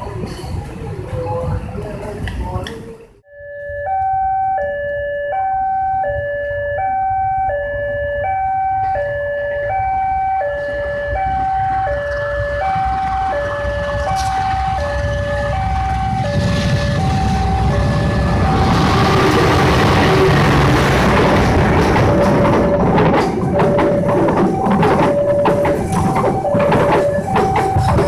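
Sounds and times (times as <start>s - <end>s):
two-tone warning alarm: 3.3s - 28.0s
diesel engine rumble: 3.9s - 28.0s.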